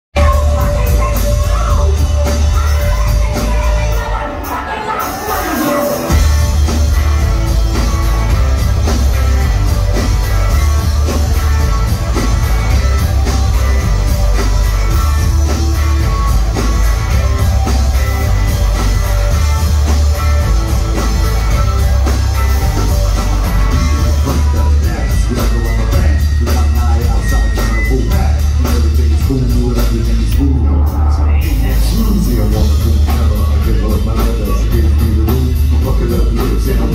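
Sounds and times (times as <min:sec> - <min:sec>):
live rock band playing loud: 0:00.1 - 0:36.9.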